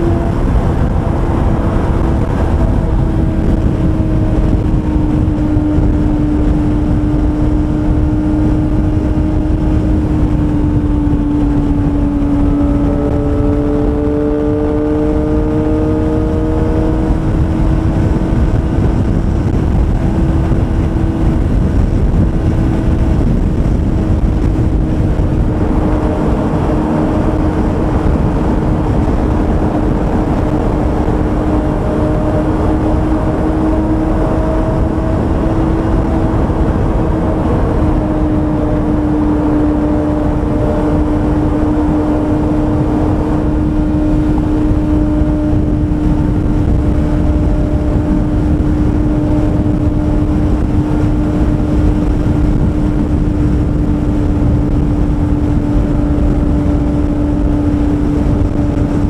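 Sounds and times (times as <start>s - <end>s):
low wind noise: 0.0s - 59.0s
motorcycle engine cruising: 0.0s - 59.0s.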